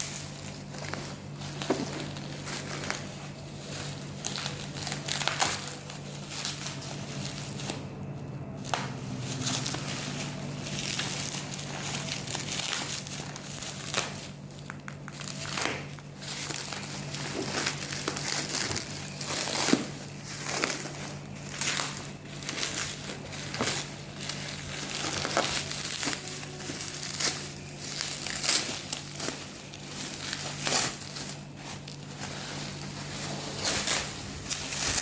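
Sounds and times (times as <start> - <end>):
packaging crinkling and rustling: 0.0 - 35.0.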